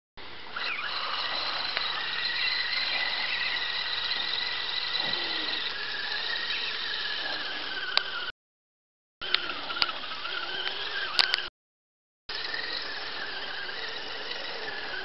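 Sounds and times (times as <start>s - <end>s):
electric motor and gears whining: 0.2s - 8.3s, 9.2s - 11.5s, 12.3s - 15.0s.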